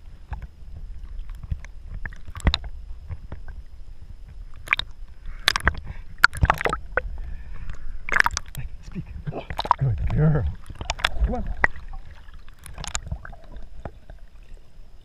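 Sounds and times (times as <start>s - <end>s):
water sloshing and lapping: 0.0s - 15.0s.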